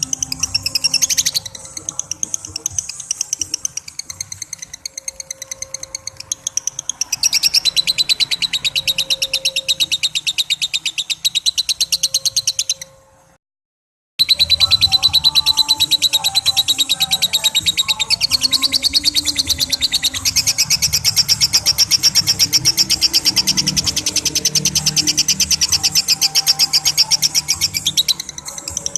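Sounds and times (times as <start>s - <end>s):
lovebird chattering: 0.0s - 13.0s, 14.2s - 28.9s.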